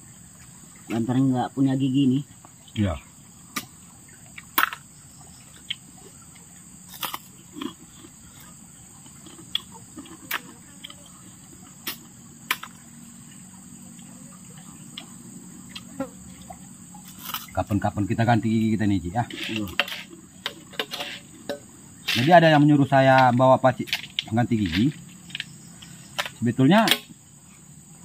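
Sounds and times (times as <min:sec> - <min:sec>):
crickets chirring: 0:00.0 - 0:28.0
people eating snails clicking: 0:03.5 - 0:17.8, 0:18.6 - 0:27.1.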